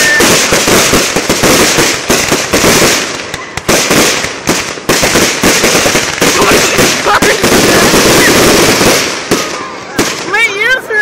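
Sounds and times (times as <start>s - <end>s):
fireworks cracks and pops: 0.0s - 10.8s.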